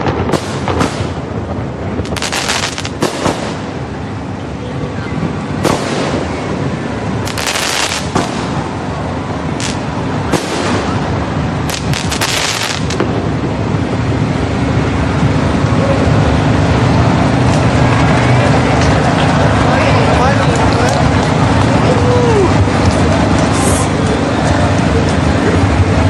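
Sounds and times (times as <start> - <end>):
fireworks bursting and crackling: 0.0 - 26.0
large crowd din: 0.0 - 26.0.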